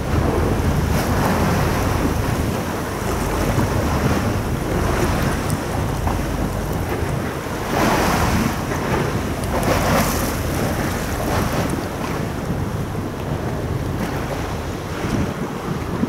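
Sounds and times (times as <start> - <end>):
water washing: 0.0 - 14.5
wind buffeting microphone: 0.0 - 16.0.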